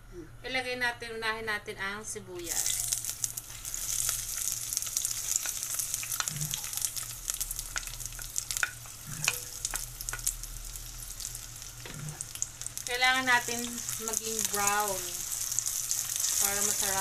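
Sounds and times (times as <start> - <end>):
onions sizzling in oil: 2.4 - 17.0.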